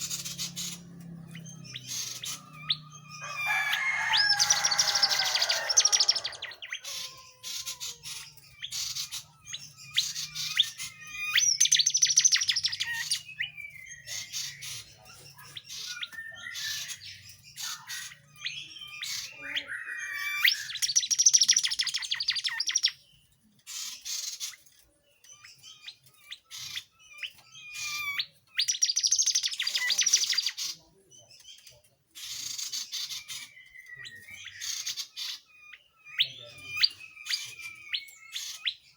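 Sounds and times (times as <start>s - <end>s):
bird chirps: 0.0s - 38.9s
songbird singing trills: 0.0s - 38.9s.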